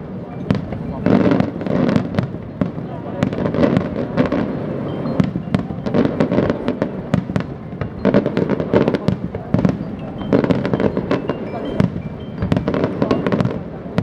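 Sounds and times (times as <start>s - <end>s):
fireworks banging and crackling: 0.0s - 14.0s.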